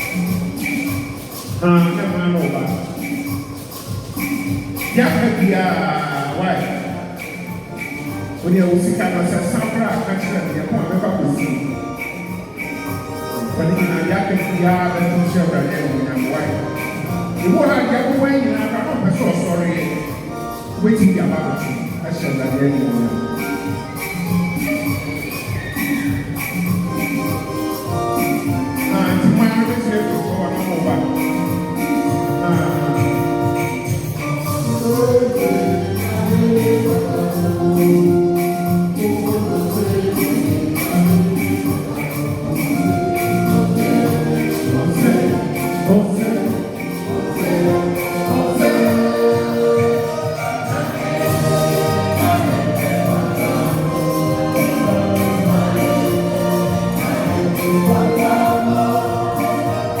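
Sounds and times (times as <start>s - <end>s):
choir singing gospel music: 0.0s - 60.0s
tambourine jingles: 0.0s - 60.0s.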